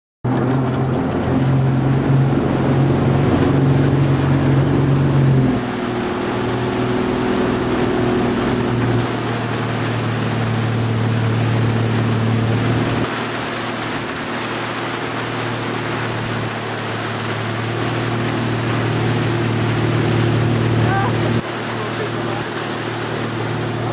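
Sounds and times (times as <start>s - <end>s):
churning wake water: 0.2s - 23.9s
motorboat engine running: 0.2s - 23.9s.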